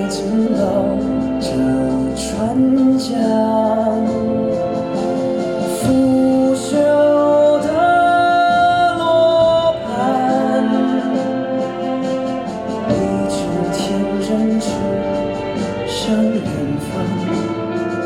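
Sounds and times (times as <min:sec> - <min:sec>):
pop ballad singing: 0:00.0 - 0:18.0.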